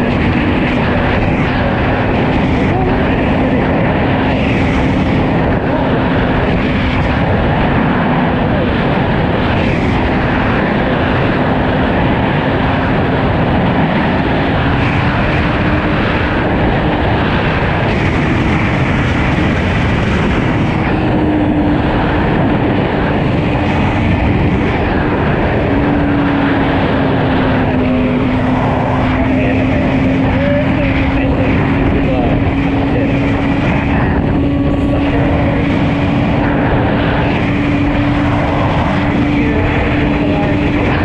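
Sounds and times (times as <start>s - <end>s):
motorcycle engine drone: 0.0s - 41.0s
wind rush: 0.0s - 41.0s.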